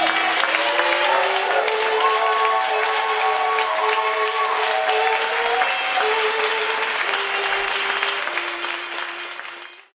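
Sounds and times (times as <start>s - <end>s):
music with long held notes: 0.0s - 9.9s
audience applauding: 0.0s - 10.0s.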